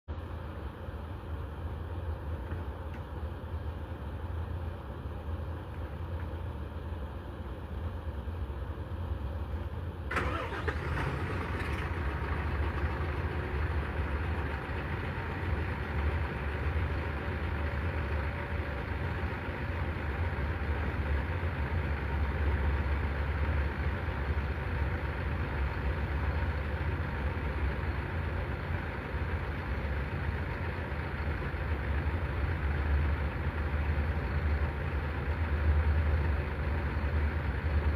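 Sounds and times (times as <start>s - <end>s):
diesel truck engine rumbling: 0.1s - 37.9s.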